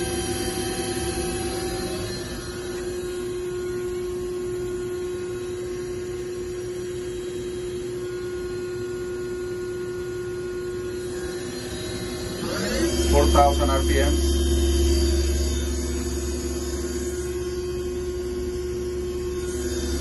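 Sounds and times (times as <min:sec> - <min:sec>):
machine spindle humming: 0:00.0 - 0:20.0.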